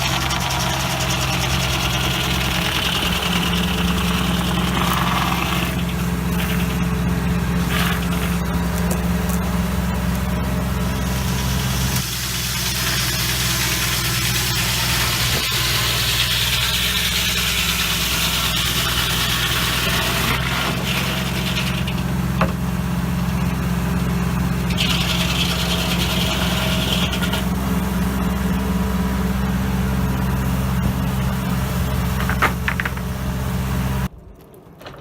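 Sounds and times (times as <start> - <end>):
saw blade cutting log: 0.0 - 28.4
engine running: 0.0 - 34.2.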